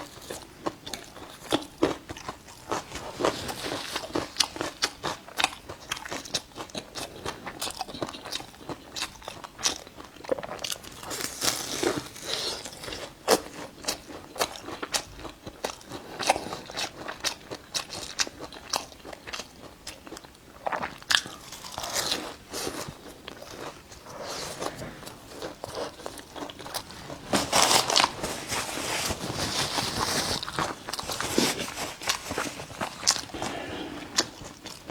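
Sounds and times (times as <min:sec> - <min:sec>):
crunchy pastry chewing: 0:00.0 - 0:34.9.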